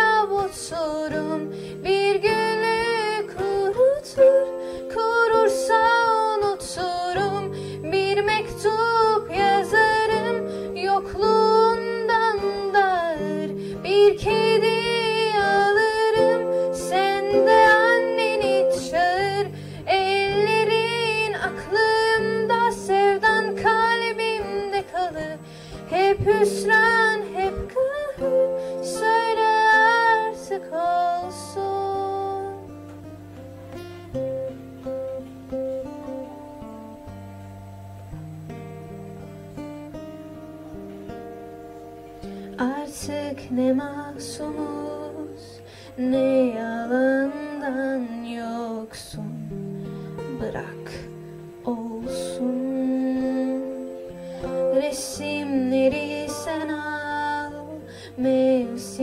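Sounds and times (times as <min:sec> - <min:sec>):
girl singing into microphone: 0:00.0 - 0:33.4, 0:42.2 - 0:59.0
guitar accompaniment: 0:00.0 - 0:59.0.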